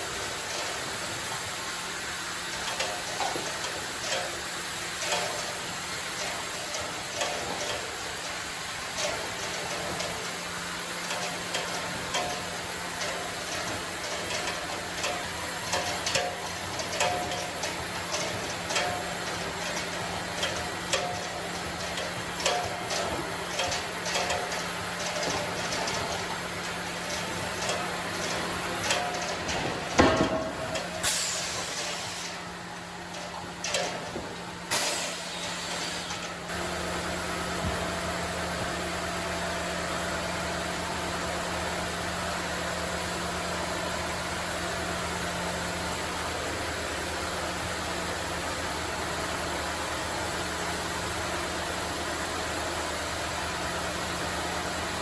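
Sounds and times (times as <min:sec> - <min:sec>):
sawmill machinery humming: 0:00.0 - 0:55.0.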